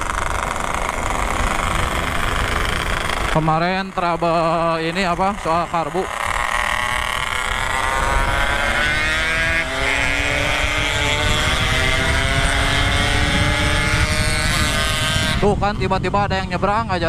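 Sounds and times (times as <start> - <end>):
motorcycle engine pulling hard: 0.0 - 17.0
wind rumbling on microphone: 0.0 - 17.0.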